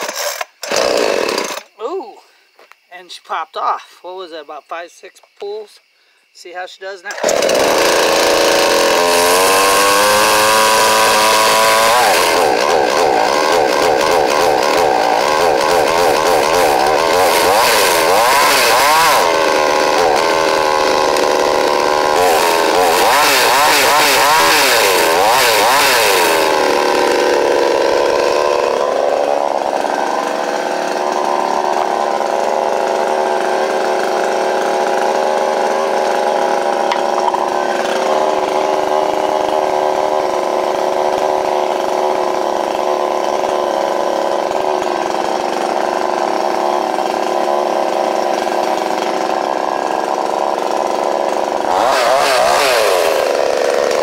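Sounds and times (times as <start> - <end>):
chainsaw revving and idling: 0.0 - 2.8, 7.0 - 54.0.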